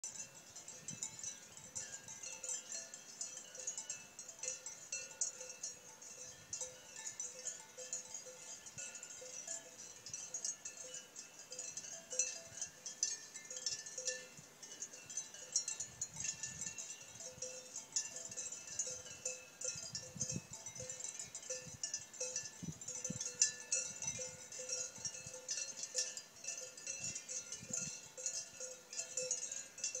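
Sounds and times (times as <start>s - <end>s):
cowbells clanking: 0.0s - 30.0s.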